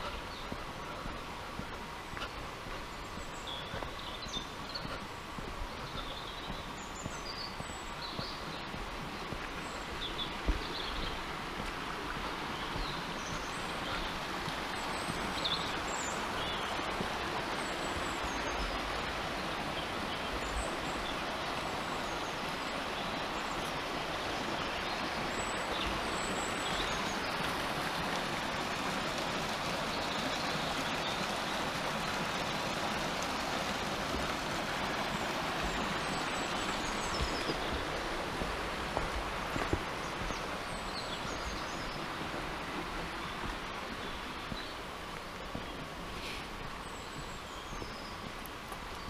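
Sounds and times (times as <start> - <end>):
small birds chirping: 0.0 - 49.0
stream rushing over stones: 0.0 - 49.0.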